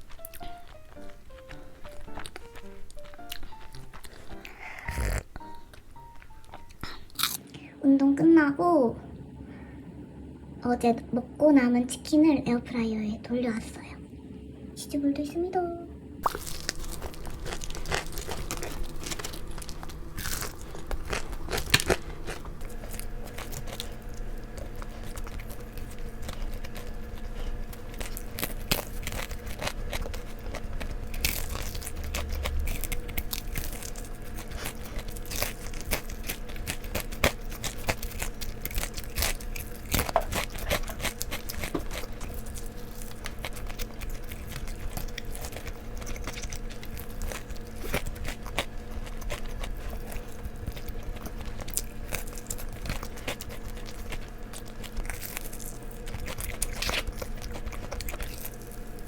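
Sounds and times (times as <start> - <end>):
crunching and chewing fried chicken: 0.0 - 7.7, 16.2 - 59.0.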